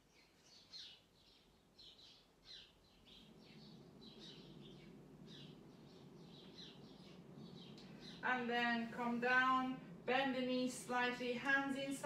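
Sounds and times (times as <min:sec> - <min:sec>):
faint bird chirping: 0:00.0 - 0:09.9
low background noise: 0:00.0 - 0:12.0.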